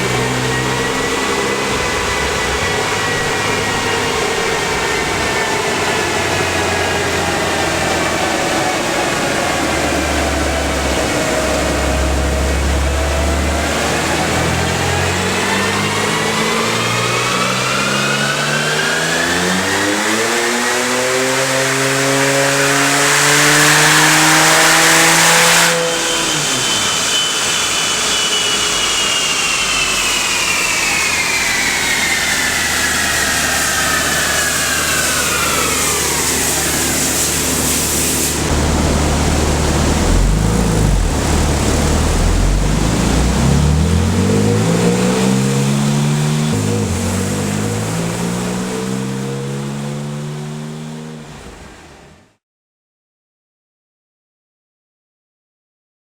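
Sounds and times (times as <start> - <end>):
car engine full-throttle revving: 0.0 - 52.0
high turbo whine: 0.0 - 52.1.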